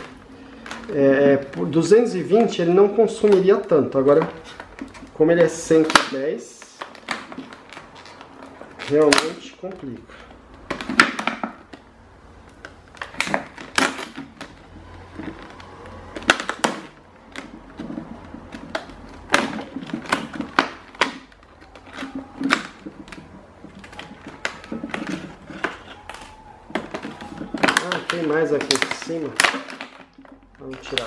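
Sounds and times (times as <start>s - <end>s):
plastic packaging snapping and crackling: 0.0s - 31.0s.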